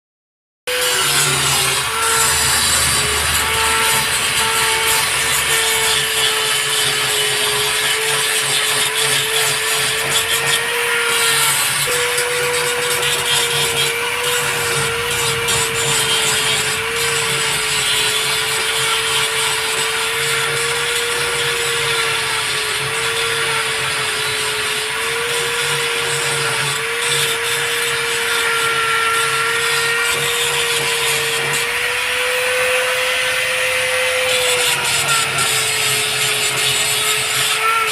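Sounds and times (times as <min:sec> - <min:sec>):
power tool whining: 0:00.7 - 0:37.9.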